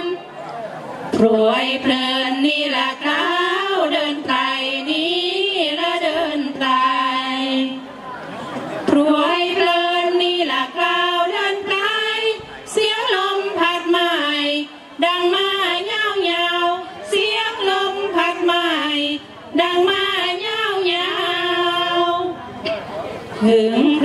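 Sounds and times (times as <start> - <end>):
women singing unaccompanied: 0.0 - 0.3, 1.1 - 8.0, 8.8 - 24.0.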